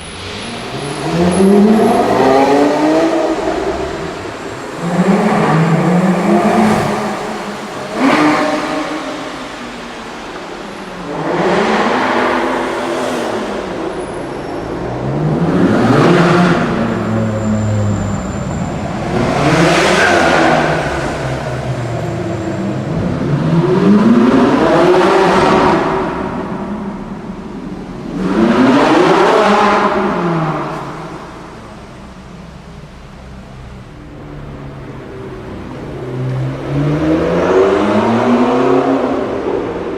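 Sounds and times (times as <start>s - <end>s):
supercar engines accelerating: 0.0s - 39.9s.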